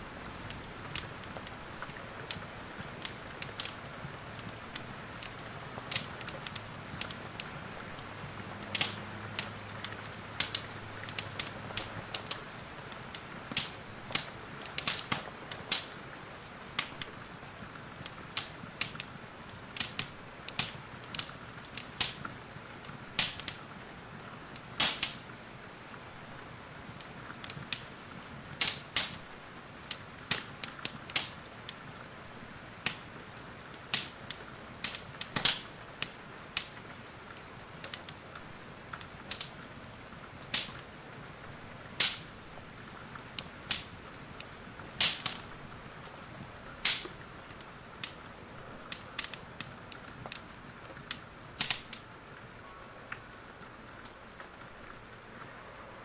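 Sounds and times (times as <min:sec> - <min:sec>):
wood fire crackling and popping: 0:00.0 - 0:55.6
hiss of rain: 0:00.0 - 0:56.0.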